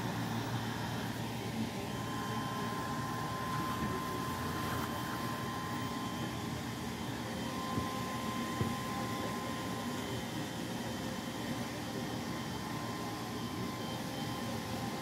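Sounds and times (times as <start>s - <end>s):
background hum and hiss: 0.0s - 15.0s
faint high whine: 0.0s - 15.0s.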